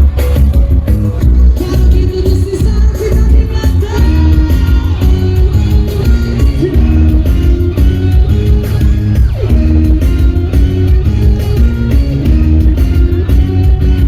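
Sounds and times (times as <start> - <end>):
dance music with heavy bass: 0.0 - 14.0
picked guitar melody: 0.0 - 14.0.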